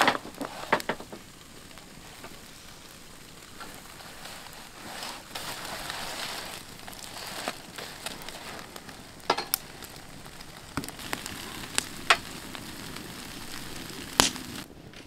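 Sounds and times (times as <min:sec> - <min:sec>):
fish sizzling on a grill: 0:00.0 - 0:14.7
burning wood crackling and popping: 0:00.0 - 0:15.0.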